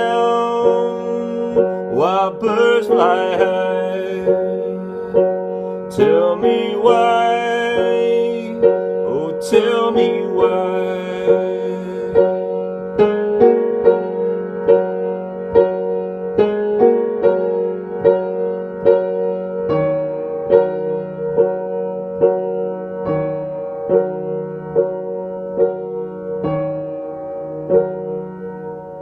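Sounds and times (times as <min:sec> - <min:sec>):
slow piano piece: 0:00.0 - 0:29.0.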